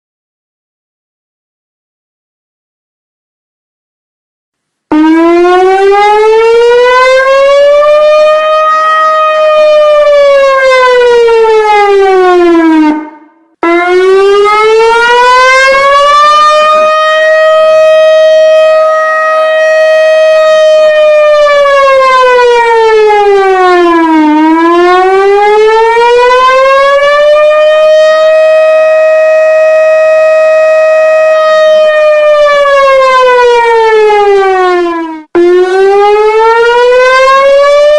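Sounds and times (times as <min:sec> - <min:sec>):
warning siren wailing: 0:04.9 - 0:37.9.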